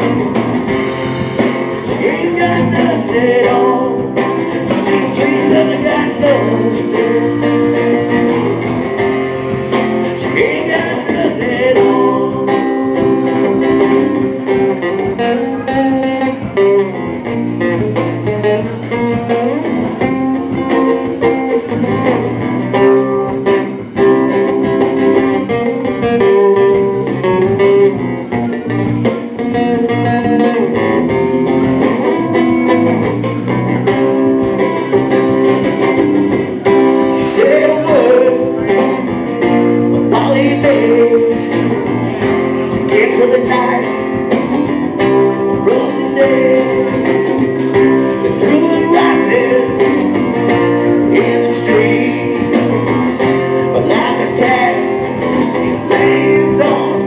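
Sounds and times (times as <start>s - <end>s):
bass: 0.0s - 57.0s
drum kit beating: 0.0s - 57.0s
guitar chords: 0.0s - 57.0s.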